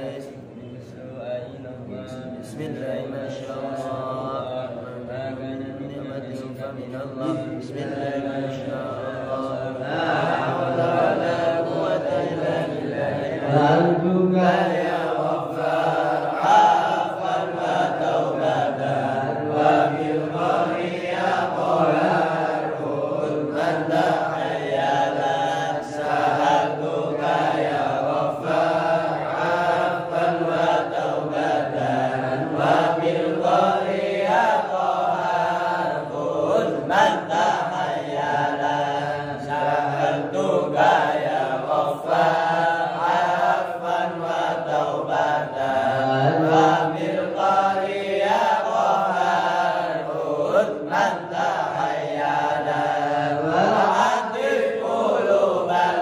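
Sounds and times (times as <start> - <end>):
man chanting a recitation: 0.0 - 56.0.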